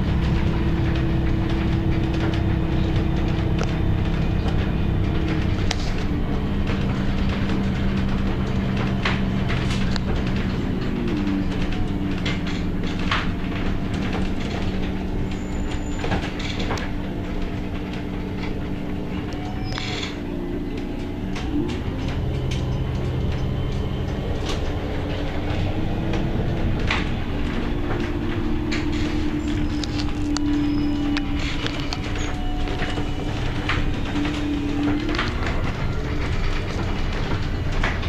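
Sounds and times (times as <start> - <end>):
bus engine drone: 0.0 - 38.0
rattles and knocks: 0.0 - 38.0.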